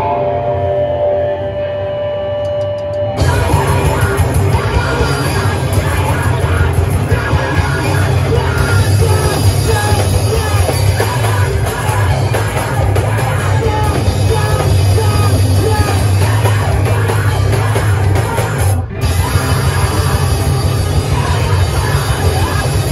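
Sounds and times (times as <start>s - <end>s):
distorted electric guitars: 0.0s - 22.9s
heavy bass: 0.0s - 22.9s
pounding drum kit: 3.2s - 22.9s
yelled vocals: 3.2s - 22.9s.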